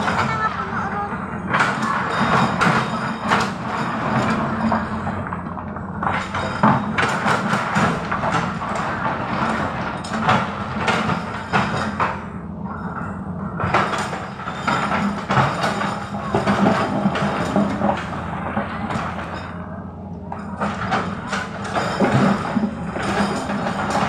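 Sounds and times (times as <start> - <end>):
excavator diesel engine running: 0.0 - 24.0
metallic clanks and knocks: 0.0 - 24.0.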